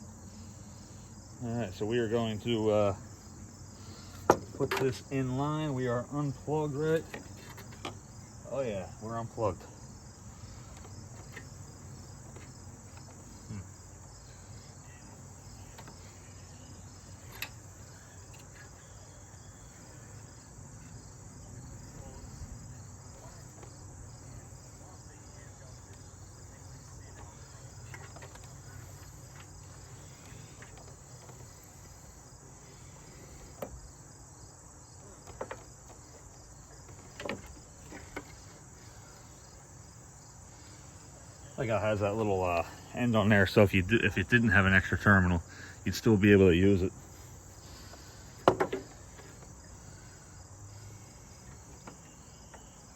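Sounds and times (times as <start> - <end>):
insect chorus chirring: 0.0 - 52.9.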